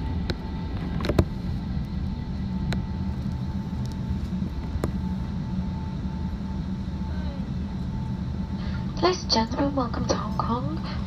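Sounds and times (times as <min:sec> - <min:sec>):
faint steady whine: 0:00.0 - 0:11.0
low cabin rumble: 0:00.0 - 0:11.0.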